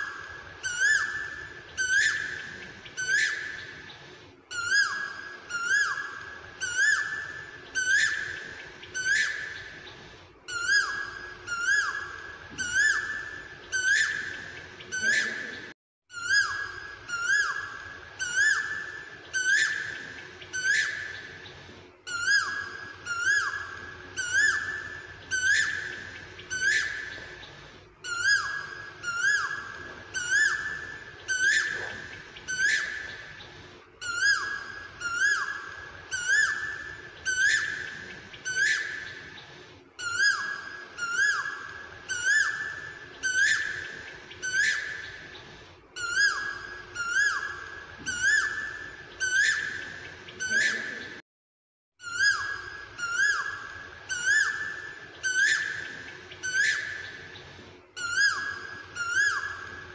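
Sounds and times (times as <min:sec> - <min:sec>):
bird whistled call: 0:00.0 - 0:03.8, 0:04.5 - 0:09.8, 0:10.5 - 0:21.4, 0:22.1 - 0:27.4, 0:28.0 - 0:45.3, 0:46.0 - 0:51.2, 0:52.0 - 0:57.3, 0:58.0 - 0:59.9.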